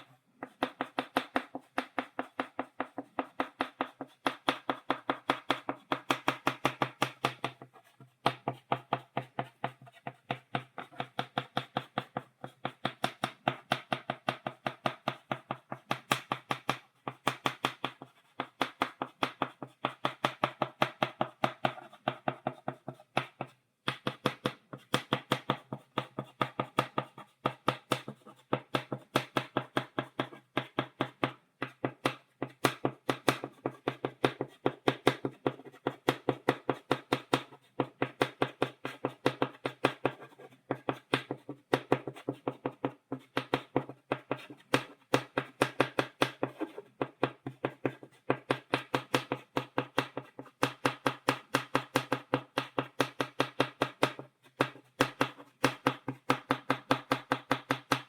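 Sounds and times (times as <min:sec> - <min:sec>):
chalk tapping on blackboard: 0:00.0 - 0:58.0.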